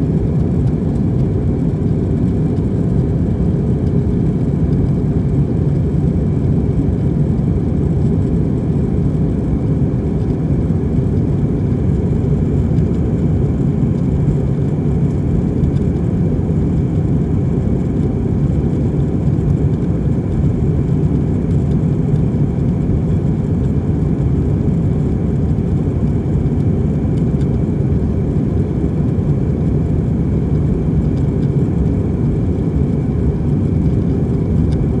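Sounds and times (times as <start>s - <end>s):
airplane cabin engine roar: 0.0s - 35.0s.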